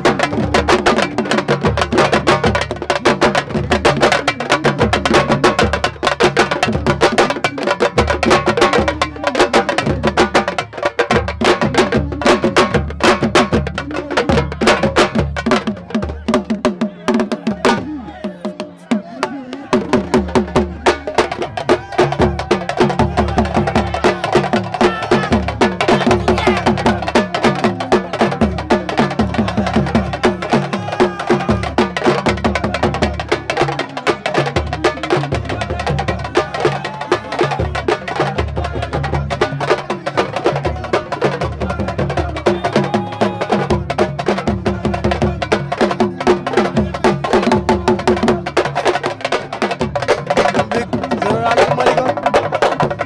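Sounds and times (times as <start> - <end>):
fast group drumming: 0.0 - 53.0.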